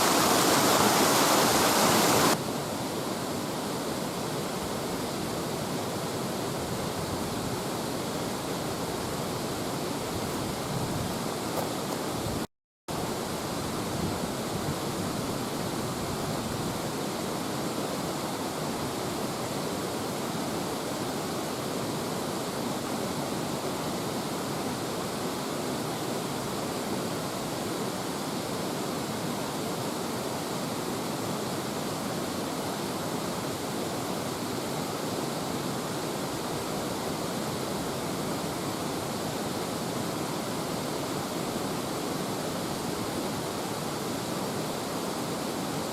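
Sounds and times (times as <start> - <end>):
river rushing: 0.0 - 45.9.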